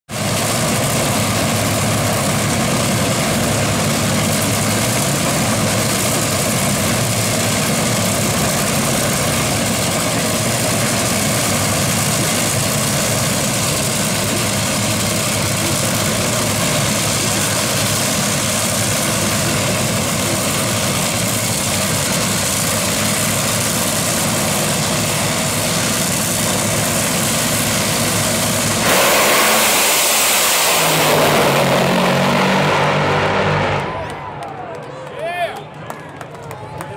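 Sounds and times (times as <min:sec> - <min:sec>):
dragster engines idling loudly: 0:00.1 - 0:36.9.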